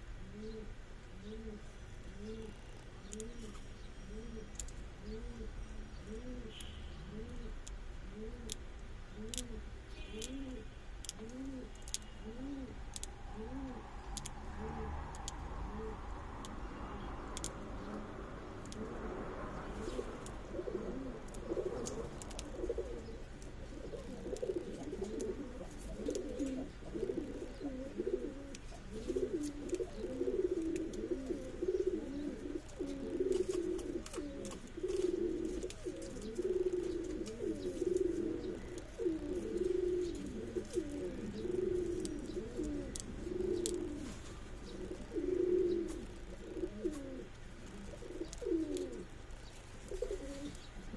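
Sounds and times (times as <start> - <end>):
pigeons cooing: 0.0 - 16.8, 17.4 - 50.9.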